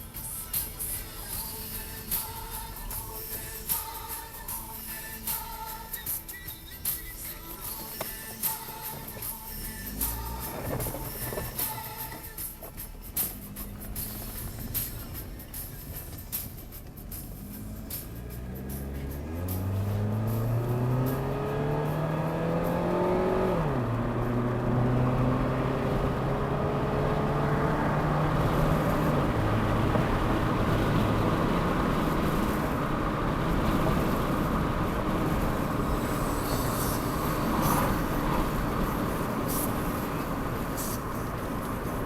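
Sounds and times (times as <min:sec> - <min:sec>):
tyre and road noise: 0:00.0 - 0:42.0
car engine revving: 0:06.9 - 0:42.0.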